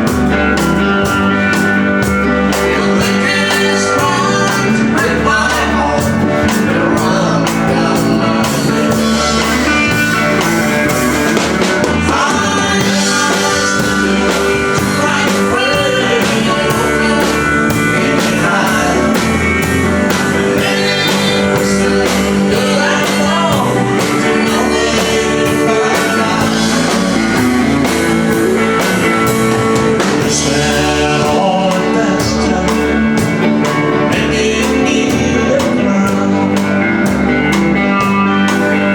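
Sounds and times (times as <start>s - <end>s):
country-rock band playing: 0.0s - 38.9s
drums steady beat: 0.0s - 38.9s.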